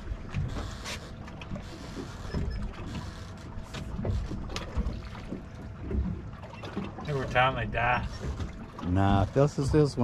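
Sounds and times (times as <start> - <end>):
water lapping against hull: 0.0 - 10.0.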